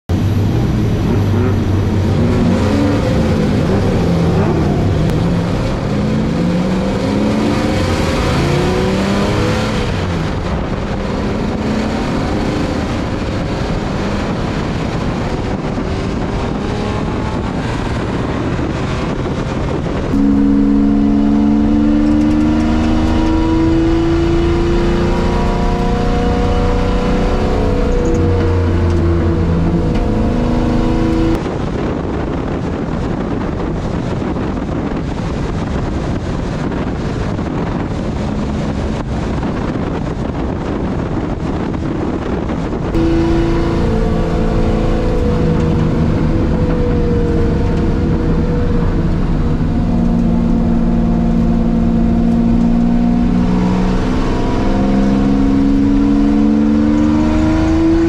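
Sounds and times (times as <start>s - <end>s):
race engine revving: 0.1s - 31.5s, 36.5s - 58.0s.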